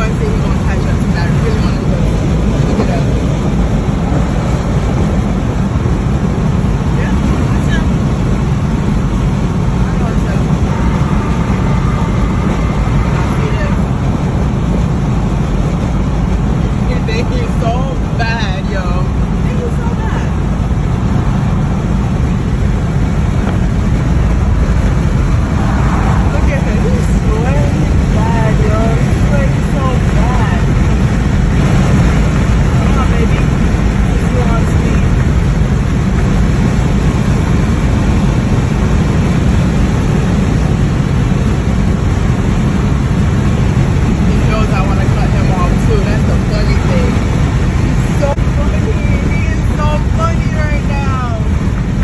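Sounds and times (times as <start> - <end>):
car cabin road noise: 0.0 - 52.0.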